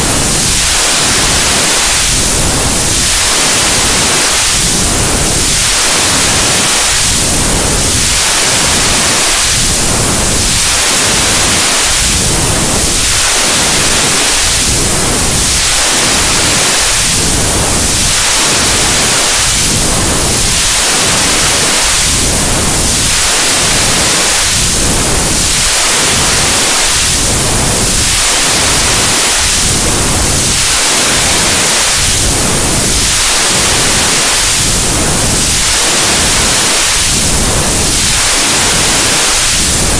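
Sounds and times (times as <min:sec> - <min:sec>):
white noise with sweeping swish: 0:00.0 - 0:39.9.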